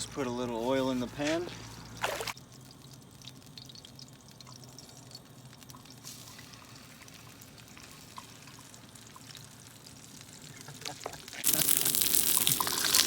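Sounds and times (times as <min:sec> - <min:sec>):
oil sizzling in a frying pan: 0:01.6 - 0:13.0.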